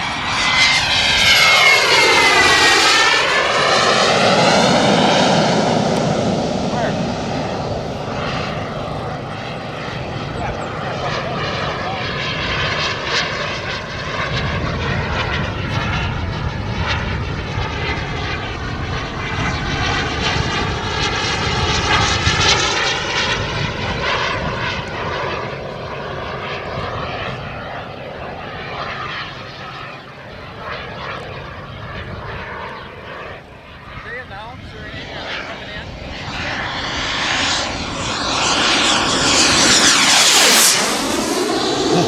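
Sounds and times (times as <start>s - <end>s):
model jet turbine whine: 0.0s - 42.0s.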